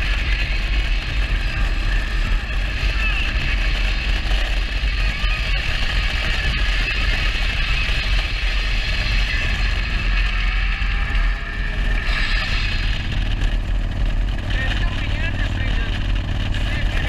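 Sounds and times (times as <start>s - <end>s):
motorcycle cruising: 0.0s - 17.0s.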